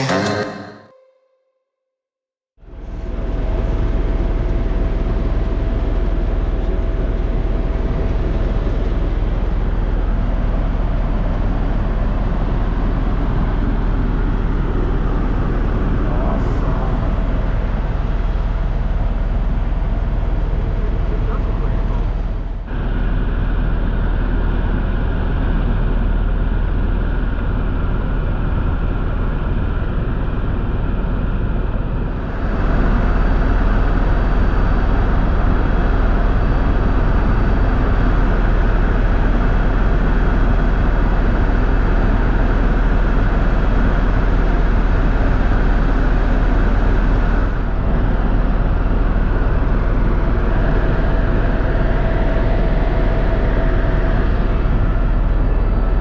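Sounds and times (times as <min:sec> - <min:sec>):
helicopter engine and rotor drone: 0:03.1 - 0:56.0.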